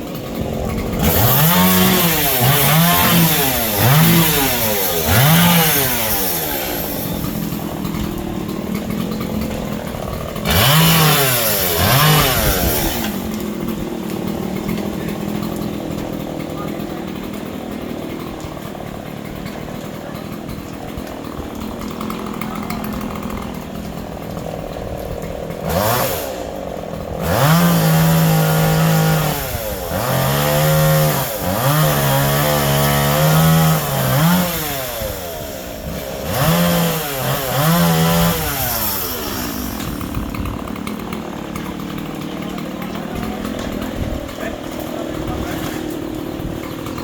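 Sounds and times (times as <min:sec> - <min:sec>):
chainsaw running and revving: 0:00.0 - 0:47.0.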